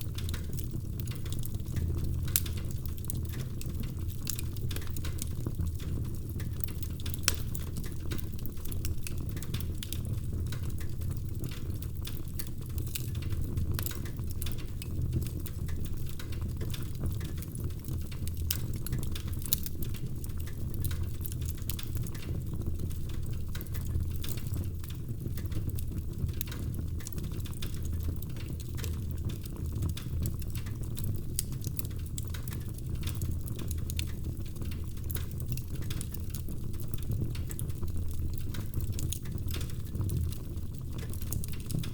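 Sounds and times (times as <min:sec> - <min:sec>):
fire rumbling and crackling: 0:00.0 - 0:41.9.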